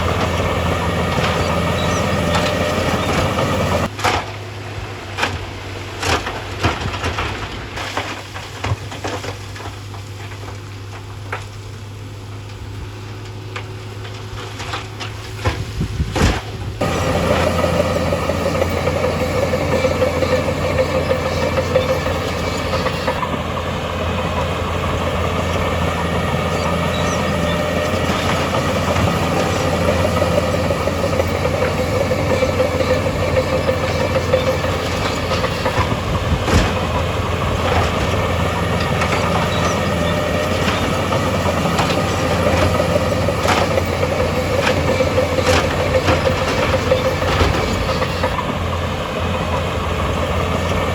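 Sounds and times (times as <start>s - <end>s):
diesel earthmoving machinery running: 0.0s - 50.9s.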